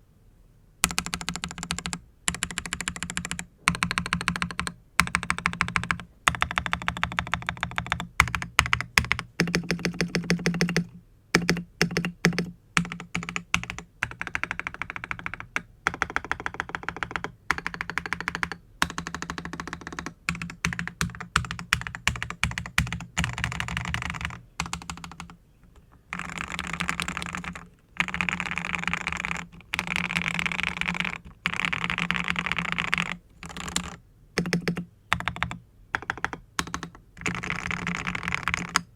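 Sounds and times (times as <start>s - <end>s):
typing on mechanical keyboard: 0.8s - 38.9s.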